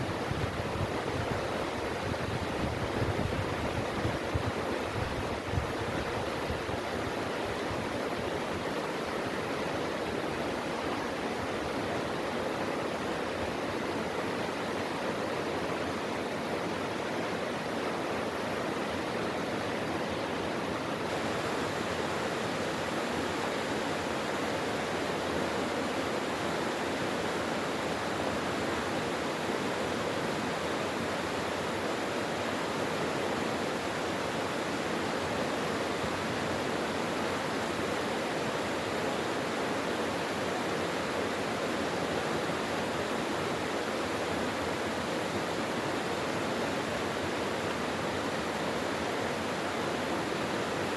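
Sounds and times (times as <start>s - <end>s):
stream rushing over rocks: 0.0s - 50.9s.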